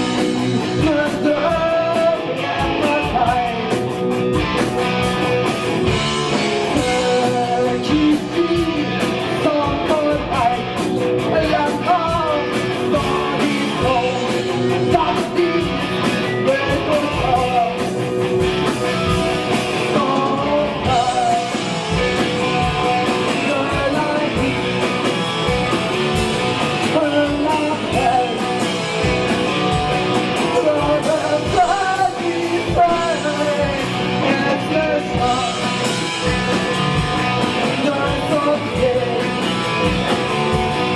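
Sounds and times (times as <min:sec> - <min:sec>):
person singing: 0:00.0 - 0:04.1, 0:05.9 - 0:25.5, 0:26.1 - 0:40.9
drums: 0:00.0 - 0:40.9
electric guitars: 0:00.0 - 0:40.9.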